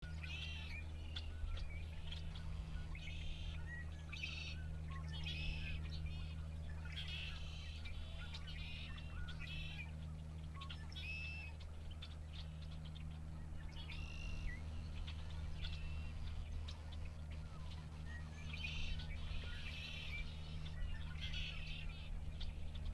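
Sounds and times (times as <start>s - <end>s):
blackbirds calling and singing: 0.0s - 22.9s
steady low hum: 0.0s - 22.9s.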